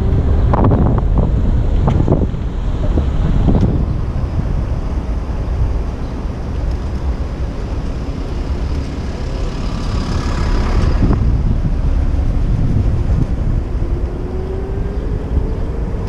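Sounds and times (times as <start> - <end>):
city street traffic: 0.0 - 16.0
wind buffeting microphone: 0.0 - 16.0.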